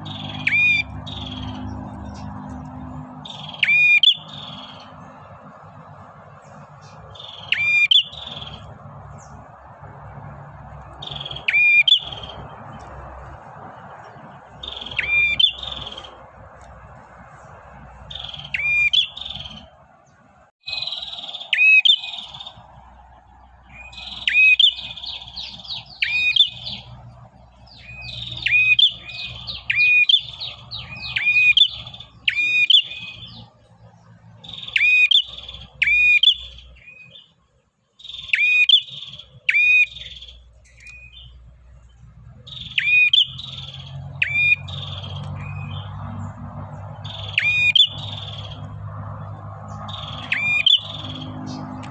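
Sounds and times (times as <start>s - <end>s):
songbird singing high calls: 0.0s - 19.8s, 20.6s - 37.3s, 38.0s - 51.9s.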